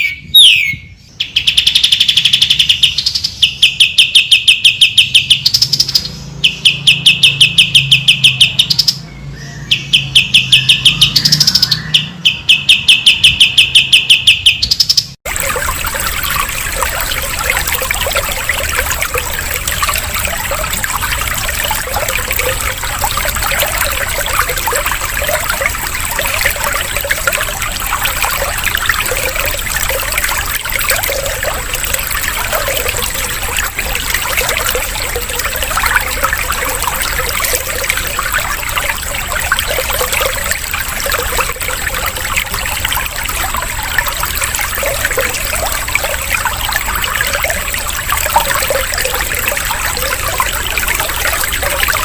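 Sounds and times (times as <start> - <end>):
trickling bubbling water: 1.2 - 9.0, 9.8 - 52.0.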